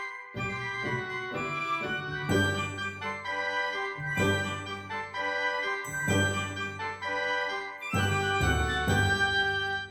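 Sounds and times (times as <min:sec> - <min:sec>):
bell-like melody over bass: 0:00.0 - 0:09.7.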